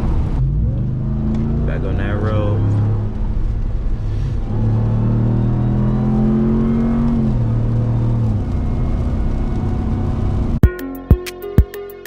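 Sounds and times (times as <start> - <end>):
truck engine accelerating: 0.0 - 10.6
road noise: 0.0 - 10.7.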